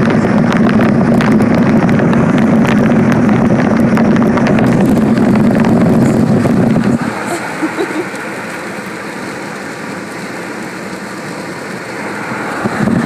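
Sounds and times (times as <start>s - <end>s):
tyres and engine drone: 0.0s - 13.0s
water spray crackle: 0.0s - 13.0s.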